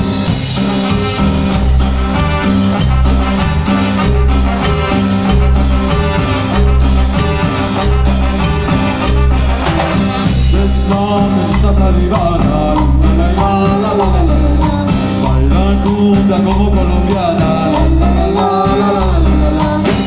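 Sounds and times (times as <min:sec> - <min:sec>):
live band playing cumbia: 0:00.0 - 0:20.0.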